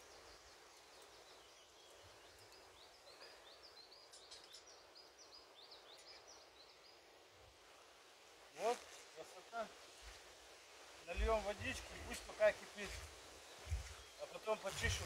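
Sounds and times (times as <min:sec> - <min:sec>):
songbird chirping: 0:00.0 - 0:07.8, 0:08.6 - 0:15.0.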